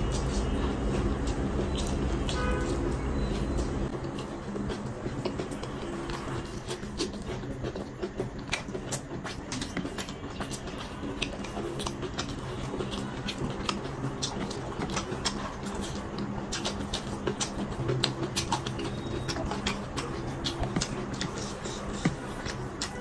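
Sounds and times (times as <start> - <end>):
wet chewing and lip-smacking: 0.0 - 23.0
mouth clicks: 0.2 - 23.0.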